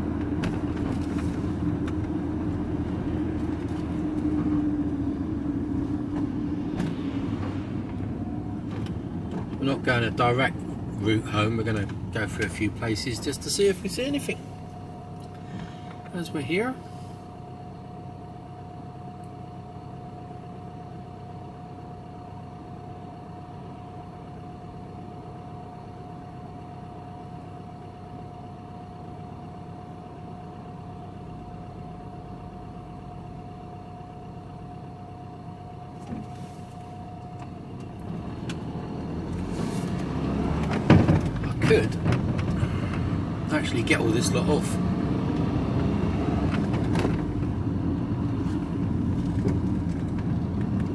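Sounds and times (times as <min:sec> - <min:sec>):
engine and road noise in cab: 0:00.0 - 0:50.9.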